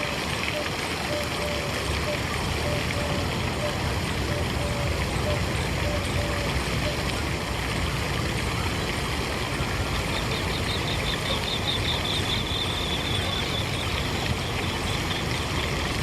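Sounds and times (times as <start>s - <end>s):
flowing water: 0.0s - 16.0s.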